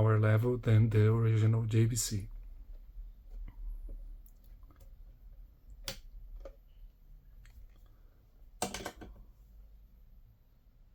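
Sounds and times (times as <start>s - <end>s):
low steady hum: 0.0s - 10.9s.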